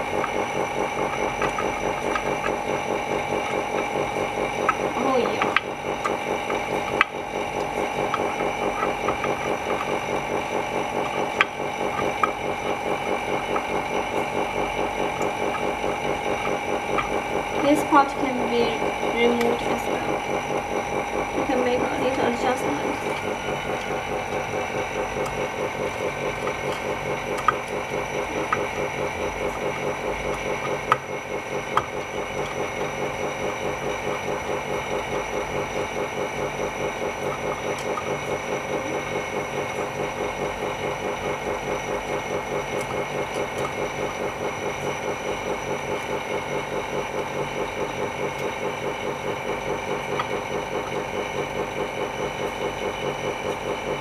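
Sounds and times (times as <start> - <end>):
vacuum pump pulsing: 0.0 - 54.0.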